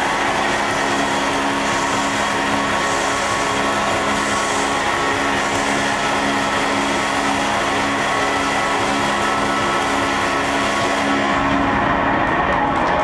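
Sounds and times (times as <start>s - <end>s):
rock band distorted drone: 0.0s - 13.0s.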